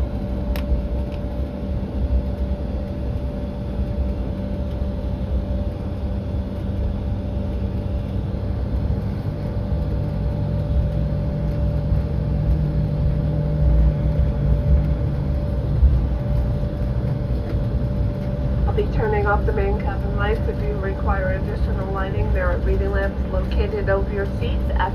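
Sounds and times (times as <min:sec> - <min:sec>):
jet engine hum: 0:00.0 - 0:24.9
low rumble: 0:00.0 - 0:24.9.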